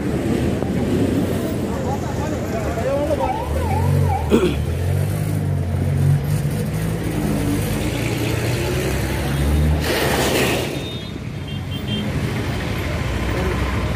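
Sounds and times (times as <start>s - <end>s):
rush of traffic noise: 0.0s - 13.9s
vehicle engines rumbling: 0.0s - 13.9s.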